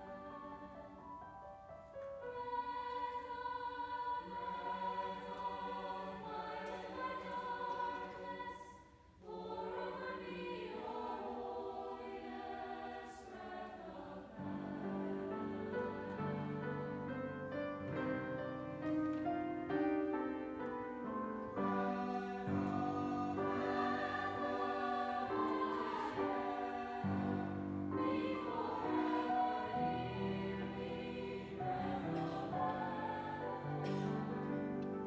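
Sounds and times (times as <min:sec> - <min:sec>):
choir singing held notes: 0:02.1 - 0:17.4, 0:21.3 - 0:35.0.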